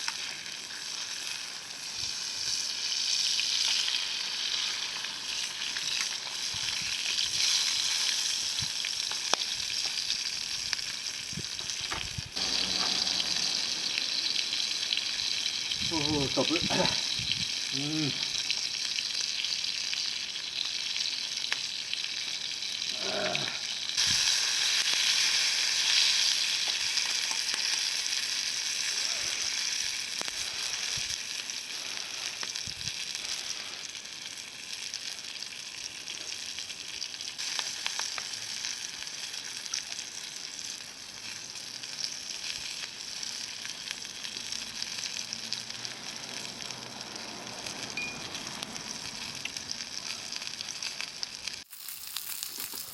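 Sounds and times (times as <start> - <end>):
campfire crackles: 0.0 - 52.9
food sizzling in a pan: 0.0 - 52.9.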